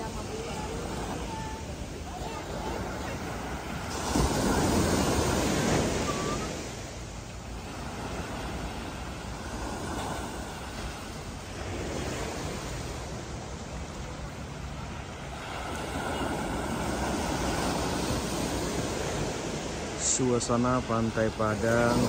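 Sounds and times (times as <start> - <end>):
sea waves breaking on shore: 0.0 - 22.0.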